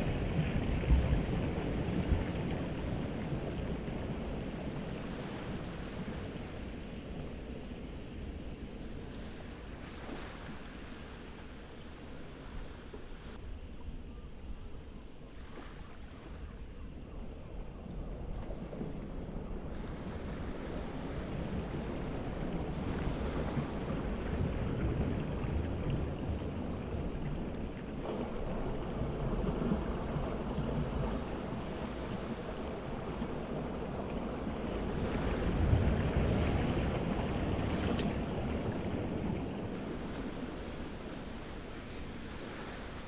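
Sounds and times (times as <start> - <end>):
sea waves washing: 0.0 - 43.0
wind rumbling on microphone: 0.0 - 43.0.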